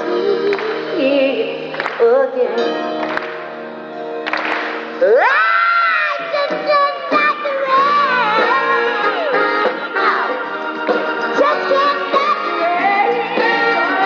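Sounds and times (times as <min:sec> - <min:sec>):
live pop band: 0:00.0 - 0:03.5, 0:04.5 - 0:14.0.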